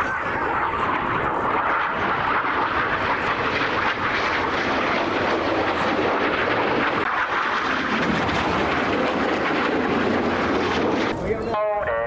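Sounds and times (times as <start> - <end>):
jet planes flying over: 0.0 - 12.0.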